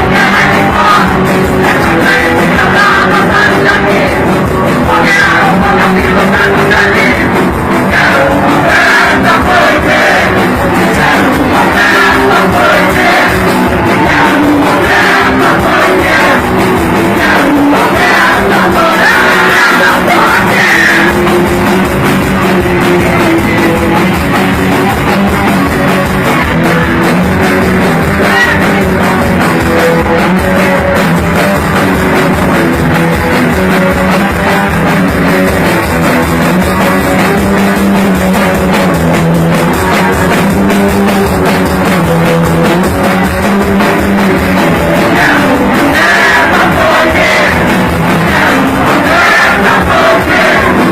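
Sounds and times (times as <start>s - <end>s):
drums: 0.0s - 50.9s
person singing: 0.0s - 50.9s
punk rock band playing: 0.0s - 50.9s.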